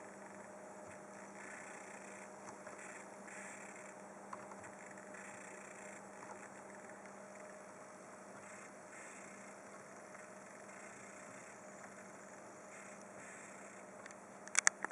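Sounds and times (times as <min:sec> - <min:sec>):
faint electrical buzzing and hissing: 0:00.0 - 0:14.9
faint steady hum: 0:00.0 - 0:14.9.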